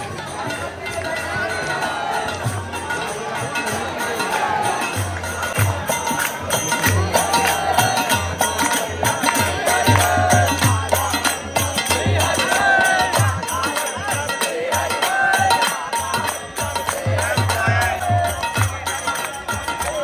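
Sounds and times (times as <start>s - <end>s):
jingling percussion: 0.0s - 20.0s
voices singing: 0.0s - 20.0s.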